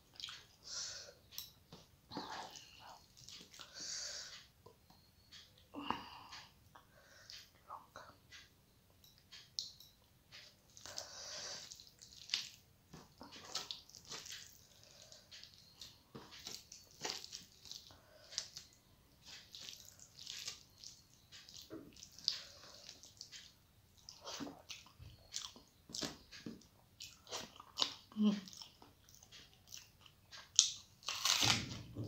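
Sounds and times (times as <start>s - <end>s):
wet squelches of fingers mixing food: 0.0s - 5.7s, 9.4s - 31.4s.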